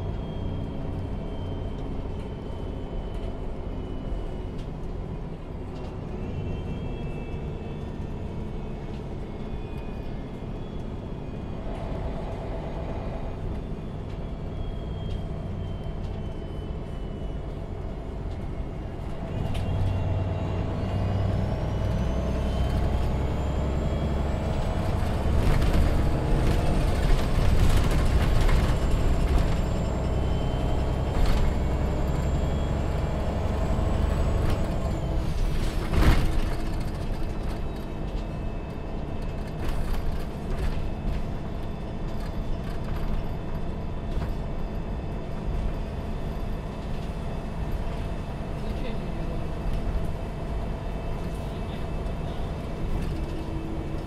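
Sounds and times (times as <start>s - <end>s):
bus diesel engine hum: 0.0s - 54.0s.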